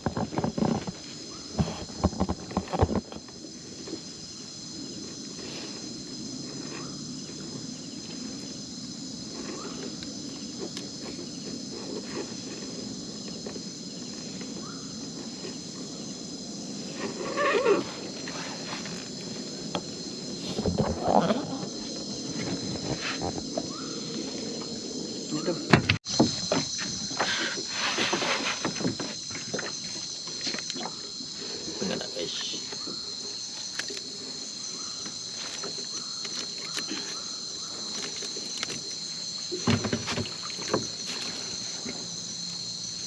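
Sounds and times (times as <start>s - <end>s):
insect chorus: 0.0s - 43.0s.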